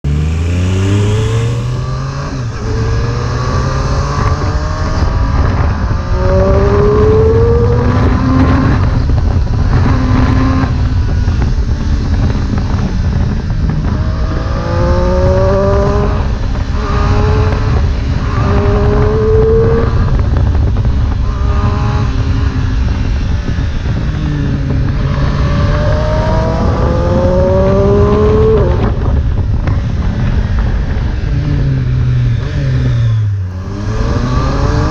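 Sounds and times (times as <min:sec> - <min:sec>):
motorcycle engine revving through gears: 0:00.0 - 0:34.9.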